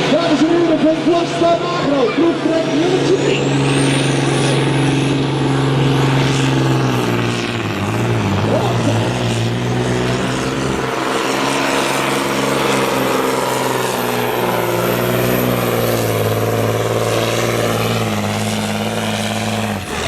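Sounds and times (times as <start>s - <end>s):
truck engine running hard: 0.0s - 20.0s.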